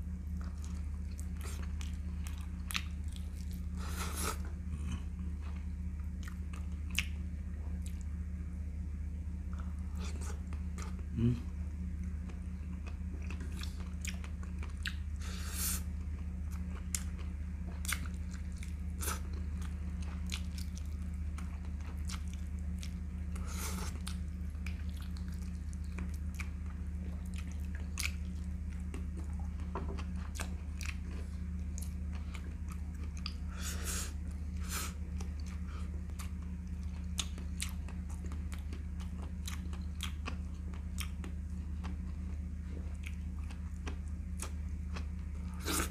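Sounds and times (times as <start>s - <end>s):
steady low hum: 0.0s - 45.9s
person chewing and biting: 0.4s - 7.2s, 12.2s - 45.9s.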